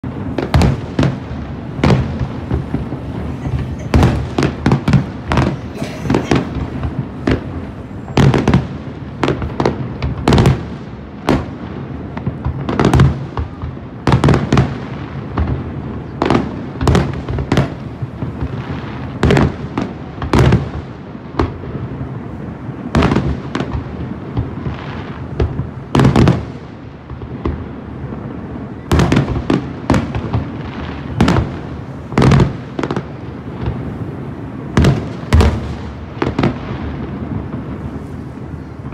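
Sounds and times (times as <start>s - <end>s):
fireworks bangs: 0.0s - 38.9s
fireworks crackle and rumble: 0.0s - 38.9s.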